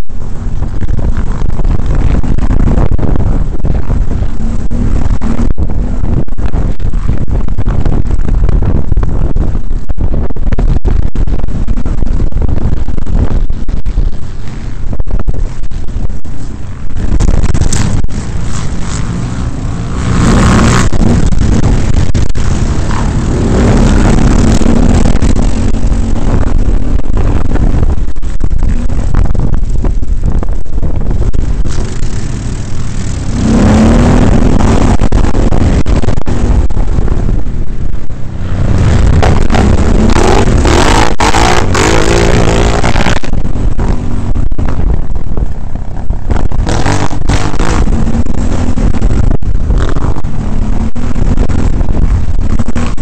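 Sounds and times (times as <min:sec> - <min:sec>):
quad bike engine revving: 0:00.5 - 0:08.4, 0:17.0 - 0:30.2, 0:31.1 - 0:53.0.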